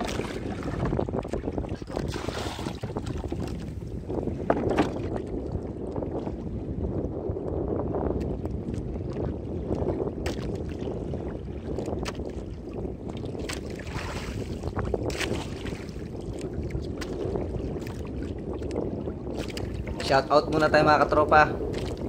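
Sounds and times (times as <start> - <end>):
water sloshing against hull: 0.0 - 22.0
wind buffeting microphone: 0.0 - 22.0.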